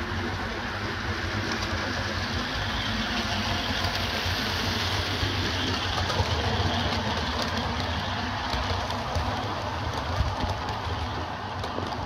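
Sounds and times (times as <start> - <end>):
wheels clicking over rails: 0.0 - 12.0.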